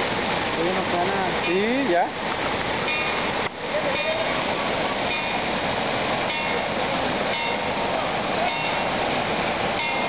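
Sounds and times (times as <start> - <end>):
water pouring and splashing: 0.0 - 10.0.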